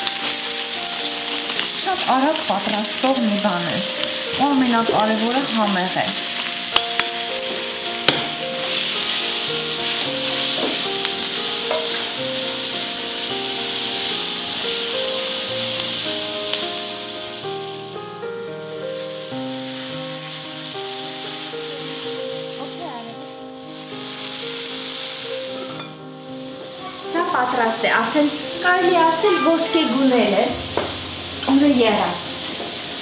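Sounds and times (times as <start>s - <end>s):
mushrooms and onion sizzling: 0.0s - 33.0s
slow background music: 0.0s - 33.0s.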